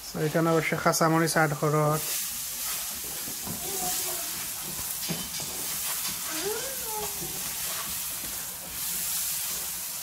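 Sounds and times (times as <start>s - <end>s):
onions sizzling in frying pan: 0.0s - 10.0s
spatula stirring in pan: 0.0s - 10.0s.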